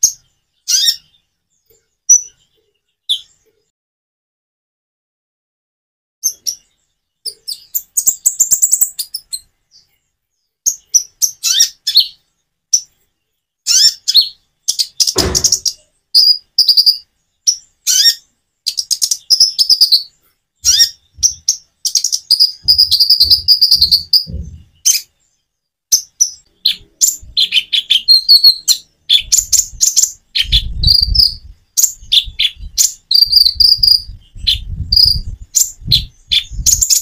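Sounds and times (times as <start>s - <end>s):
sunbird chirps and trills: 0.0s - 3.7s, 6.2s - 37.0s.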